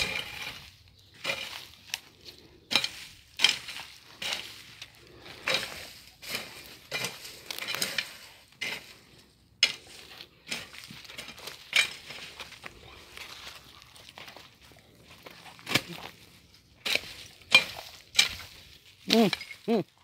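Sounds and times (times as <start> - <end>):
hand tool chopping soil: 0.0 - 9.0, 9.6 - 13.1, 15.2 - 19.8
vegetation rustling: 0.0 - 20.0.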